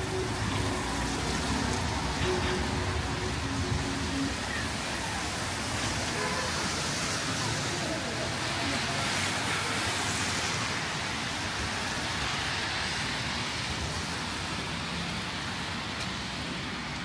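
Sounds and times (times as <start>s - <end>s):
car tyres on wet road: 0.0s - 17.0s
falling rain: 0.0s - 17.0s.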